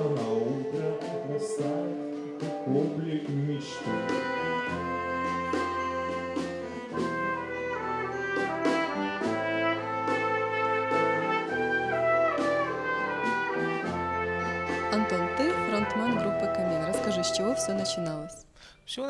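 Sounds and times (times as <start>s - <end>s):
rock band playing: 0.0s - 18.3s.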